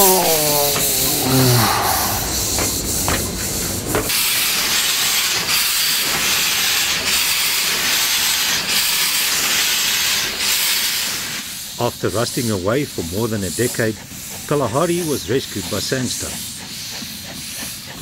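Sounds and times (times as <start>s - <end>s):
hiss of steam: 0.0s - 18.0s
steam locomotive rumbling and knocking: 0.0s - 18.0s.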